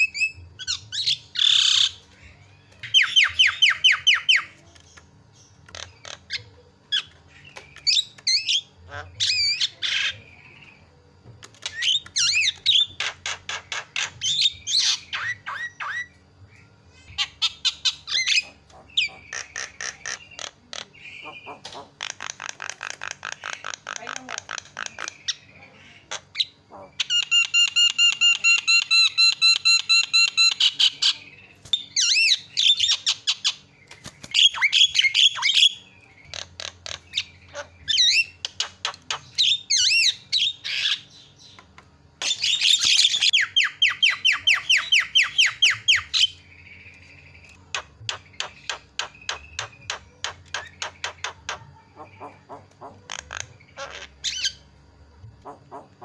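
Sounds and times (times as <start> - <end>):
myna bird calling: 0.0 - 10.9, 11.5 - 56.0.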